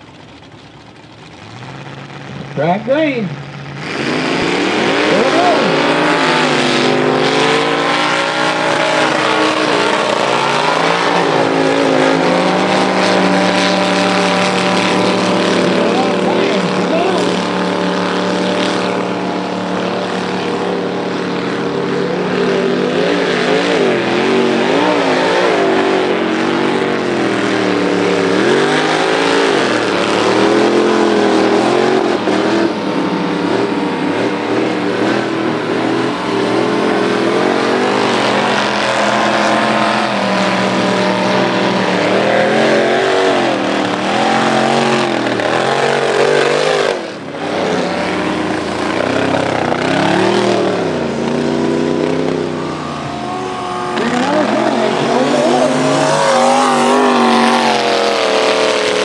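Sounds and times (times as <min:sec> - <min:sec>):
truck engine at full throttle: 0:00.0 - 0:59.0.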